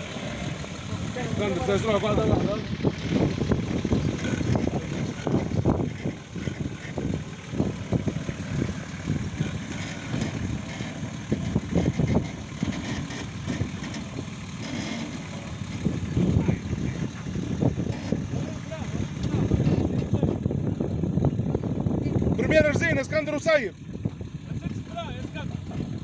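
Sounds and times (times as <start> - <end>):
off-road vehicle engine under load: 0.0 - 26.0.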